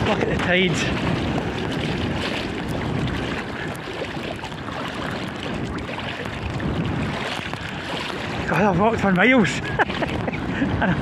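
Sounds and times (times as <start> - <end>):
sea water sloshing and lapping: 0.0 - 11.0
wind rushing over microphone: 0.0 - 11.0.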